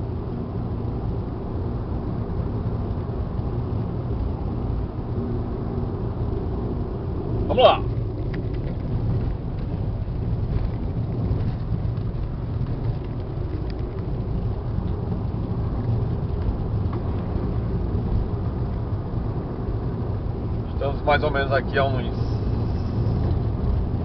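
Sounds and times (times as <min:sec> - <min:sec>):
car interior road rumble: 0:00.0 - 0:24.0.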